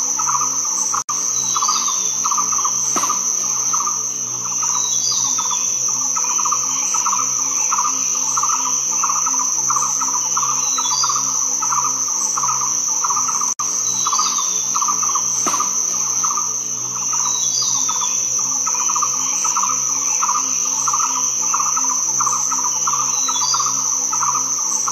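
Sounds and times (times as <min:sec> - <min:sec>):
insect chorus whine: 0:00.0 - 0:24.9
pulsing insect chirp: 0:00.0 - 0:24.9.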